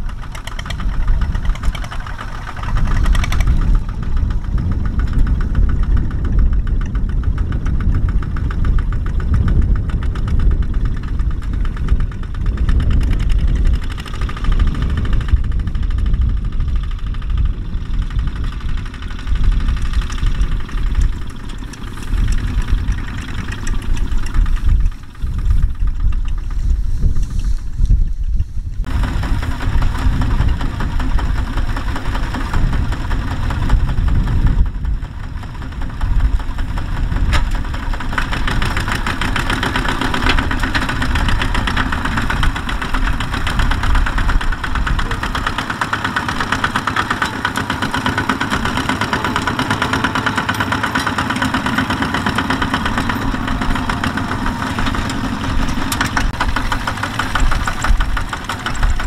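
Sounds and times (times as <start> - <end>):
diesel tractor engines chugging: 0.0 - 59.0.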